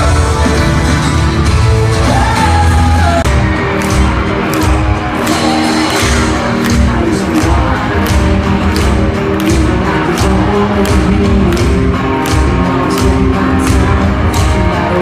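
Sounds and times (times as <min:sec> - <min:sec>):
person singing: 0:00.0 - 0:03.4, 0:05.2 - 0:15.0
live pop-rock band: 0:00.0 - 0:15.0
steady drum beat: 0:00.0 - 0:15.0.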